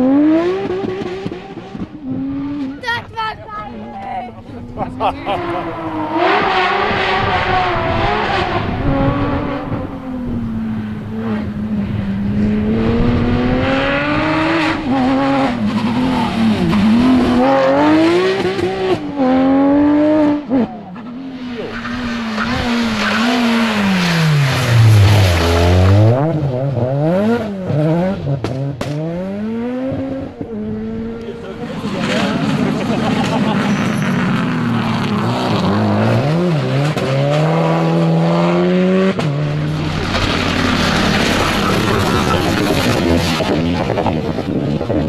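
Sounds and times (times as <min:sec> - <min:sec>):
rally car engine slowing and revving: 0:00.0 - 0:03.1, 0:03.7 - 0:45.0
rally car engine revving: 0:00.0 - 0:45.0.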